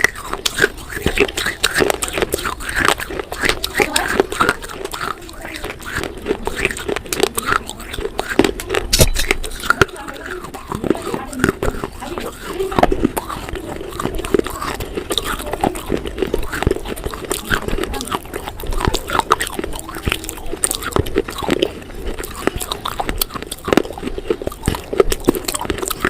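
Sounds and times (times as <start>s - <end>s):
crunchy food chewing: 0.0s - 26.0s.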